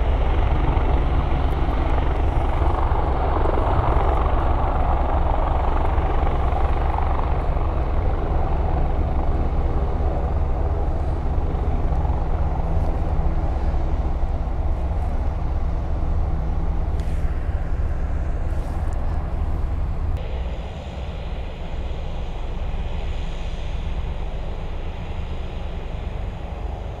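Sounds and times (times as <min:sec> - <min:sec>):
helicopter rotor and turbine: 0:00.0 - 0:27.0.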